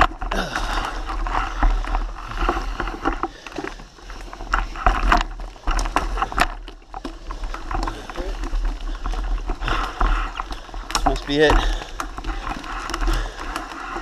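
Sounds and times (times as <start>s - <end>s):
bike rattling: 0.0s - 14.0s
bike tyres on dirt and leaves: 0.0s - 14.0s.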